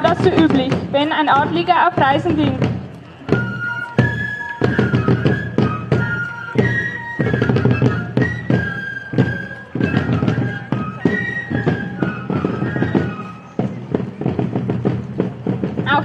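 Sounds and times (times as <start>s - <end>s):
drum beat: 0.0s - 16.0s
flute melody: 2.2s - 15.8s.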